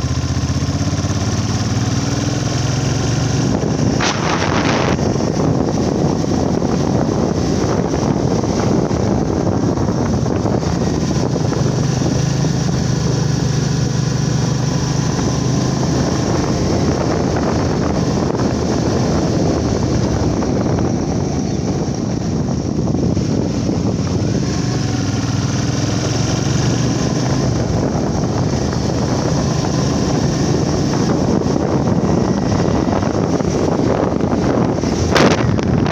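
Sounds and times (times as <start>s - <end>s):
motorbike engine hum: 0.0s - 35.9s
wind rushing over microphone: 0.0s - 35.9s.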